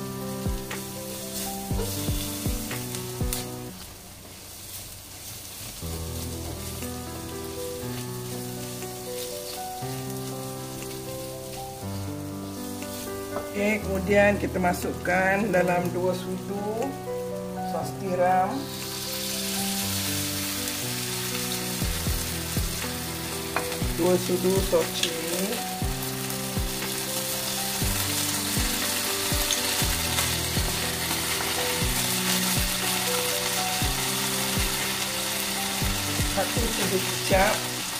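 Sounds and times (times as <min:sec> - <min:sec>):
food sizzling in oil: 0:00.0 - 0:37.9
slow background music: 0:00.0 - 0:37.9.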